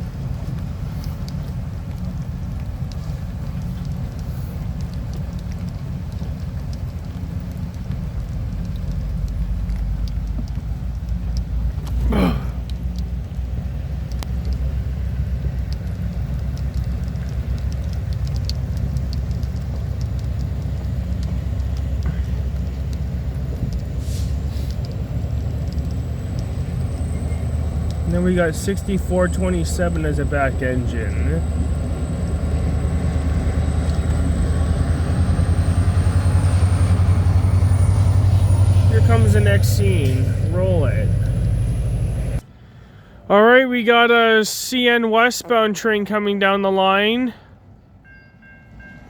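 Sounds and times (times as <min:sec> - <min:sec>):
passenger train rumble: 0:00.0 - 0:42.6.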